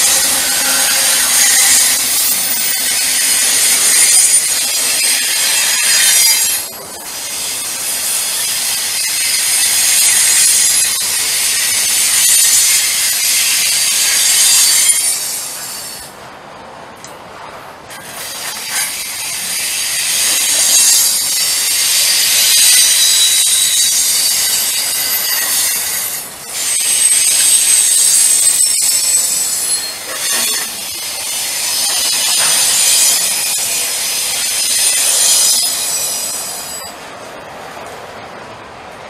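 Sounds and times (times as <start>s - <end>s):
train wheels squealing on rails: 0.0s - 16.2s, 17.9s - 37.6s
train rolling rush: 0.0s - 39.0s.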